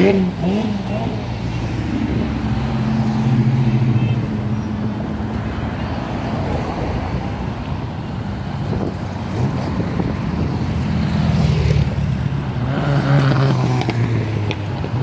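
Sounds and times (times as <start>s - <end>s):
cars driving past: 0.0s - 15.0s
tyres rumbling on road: 0.0s - 15.0s.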